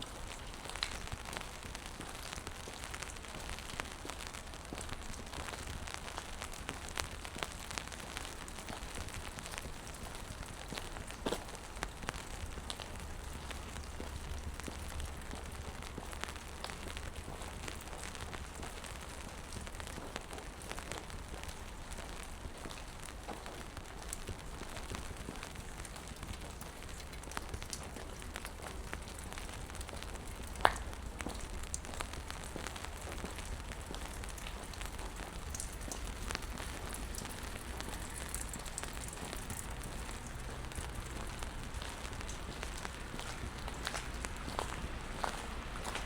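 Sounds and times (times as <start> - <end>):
rain on wet pavement: 0.0 - 46.0
single raindrops ticking: 0.0 - 46.0.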